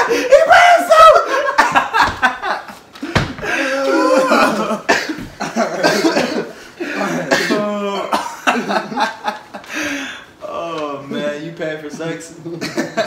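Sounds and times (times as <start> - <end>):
men laughing together: 0.0 - 10.4, 12.6 - 13.0.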